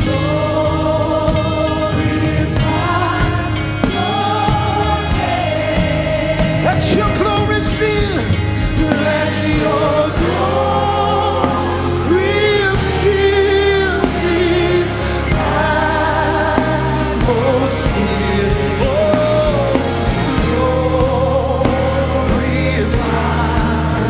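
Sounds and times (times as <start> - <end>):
choir singing long notes: 0.0 - 7.7, 8.4 - 24.0
band with sustained bass: 0.0 - 24.0.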